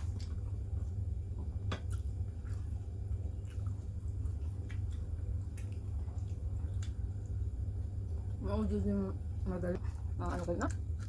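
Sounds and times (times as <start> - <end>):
low hum: 0.0 - 11.0
people chewing: 0.0 - 11.0.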